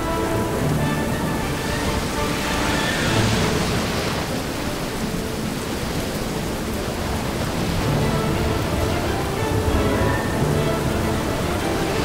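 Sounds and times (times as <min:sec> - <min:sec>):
deep storm rumble: 0:00.0 - 0:12.0
heavy rain hissing: 0:00.0 - 0:12.0.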